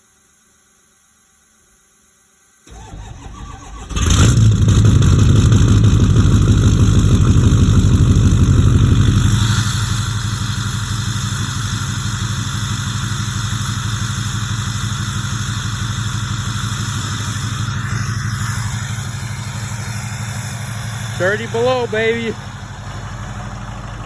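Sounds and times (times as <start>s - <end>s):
diesel engine cranking: 2.7s - 24.0s
diesel engine running and idling: 2.7s - 24.0s.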